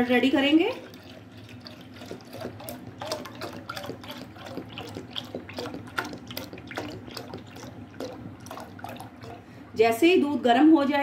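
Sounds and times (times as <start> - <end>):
milk pouring into saucepan: 0.0 - 9.8.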